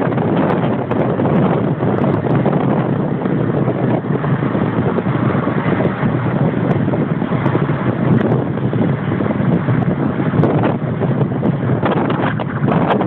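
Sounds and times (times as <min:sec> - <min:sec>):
car driving on wet road: 0:00.0 - 0:13.0
wind buffeting microphone: 0:00.0 - 0:13.0.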